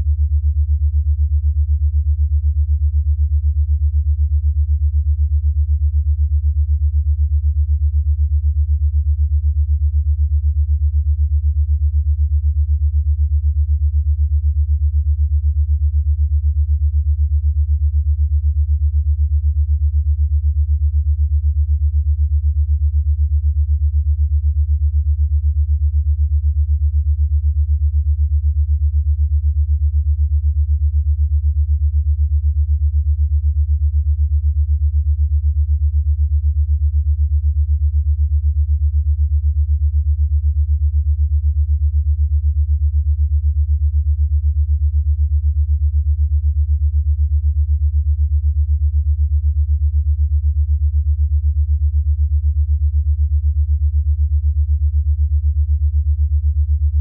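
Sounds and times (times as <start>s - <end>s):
pulsing synthesized low hum: 0.0s - 57.0s.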